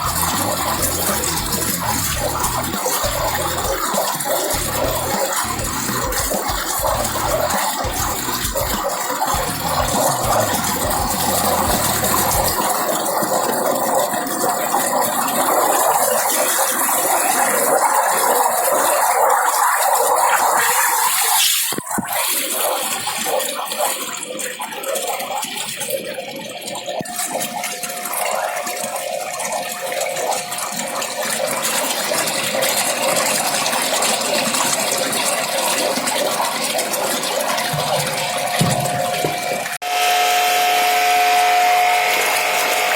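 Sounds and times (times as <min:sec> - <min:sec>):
water rushing: 0:00.0 - 0:39.8.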